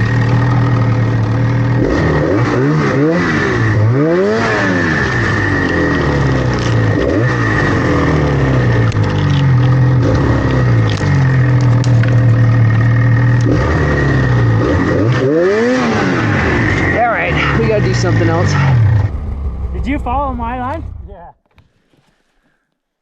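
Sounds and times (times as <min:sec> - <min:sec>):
snowmobile engine revving: 0:00.0 - 0:21.1.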